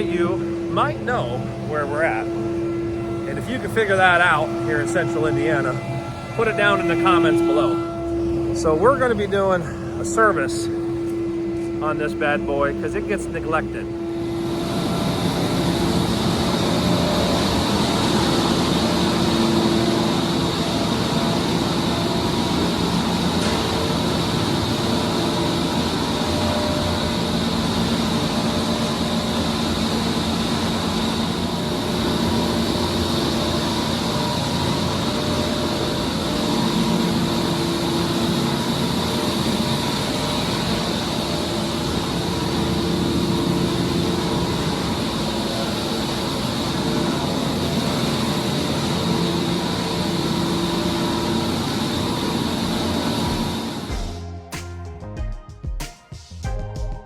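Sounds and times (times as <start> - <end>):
faint hums: 0.0 - 54.5
fan and air drone: 0.0 - 57.0.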